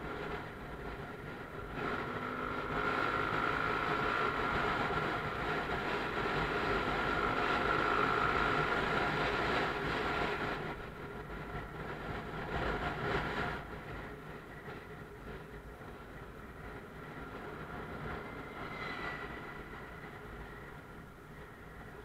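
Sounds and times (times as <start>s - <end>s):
motorcycle engine running: 0.0s - 18.4s
wind and road noise: 0.0s - 22.0s.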